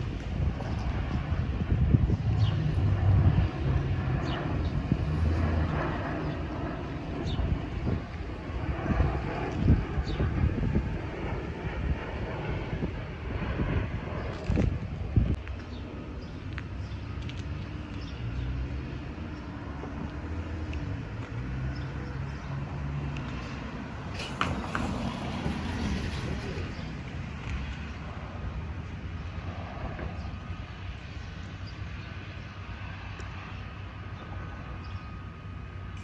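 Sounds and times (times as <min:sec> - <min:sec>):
low engine rumble: 0:00.0 - 0:31.6.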